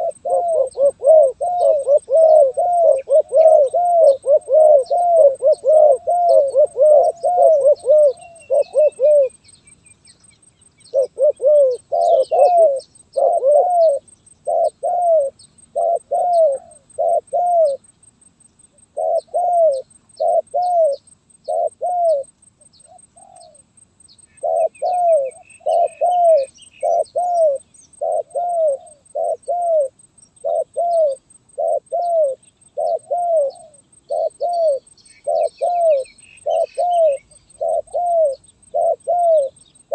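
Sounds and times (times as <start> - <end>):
dove cooing: 0.0 - 9.4, 10.8 - 17.9, 18.9 - 23.7, 24.3 - 39.9
faint high bird chirps: 0.0 - 39.9.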